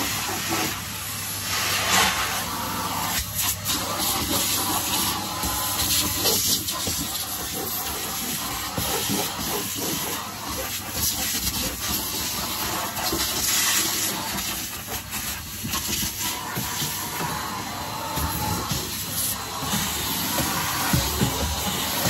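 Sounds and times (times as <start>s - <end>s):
vacuum cleaner suction hiss: 0.0s - 22.0s.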